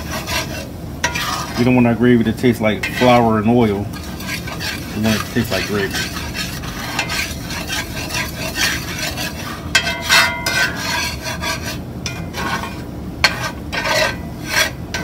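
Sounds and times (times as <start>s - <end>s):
light sizzle: 0.0s - 15.0s
metal spatula scraping a skillet: 0.0s - 15.0s.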